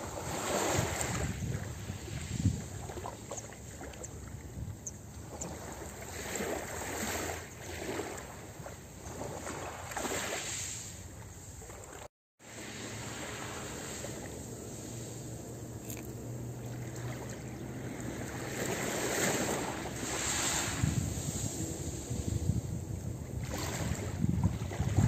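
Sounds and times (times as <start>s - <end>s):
waves lapping on pebble shore: 0.0s - 3.3s, 5.4s - 22.6s, 23.4s - 25.0s.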